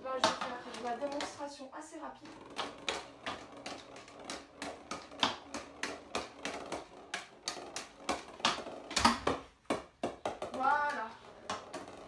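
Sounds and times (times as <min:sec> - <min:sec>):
stick tapping plastic ball on floor: 0:00.0 - 0:01.6, 0:02.2 - 0:12.0.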